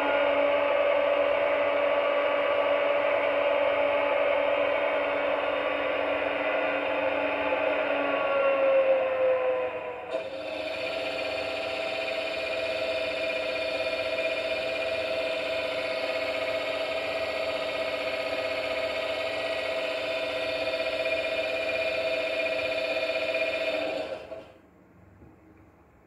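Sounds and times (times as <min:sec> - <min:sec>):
steady multi-tone locomotive sound: 0:00.0 - 0:24.7.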